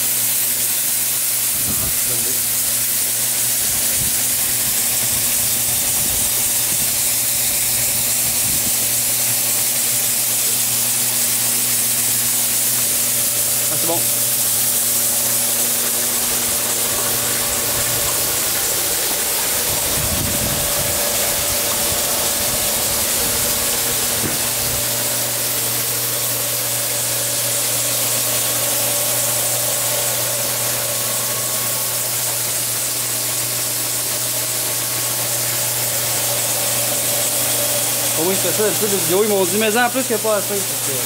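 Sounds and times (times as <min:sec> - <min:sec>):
electric machine hum: 0:00.0 - 0:41.0
water jets spraying: 0:00.0 - 0:41.0.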